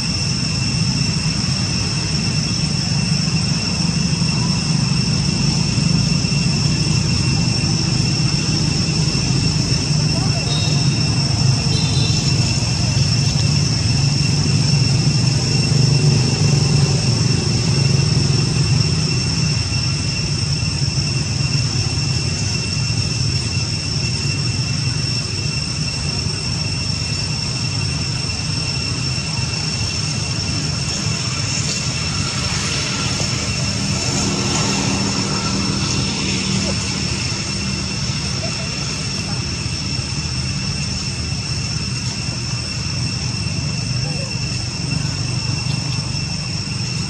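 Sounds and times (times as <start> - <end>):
high-pitched whine: 0.0 - 47.0
low engine rumble: 0.0 - 47.0.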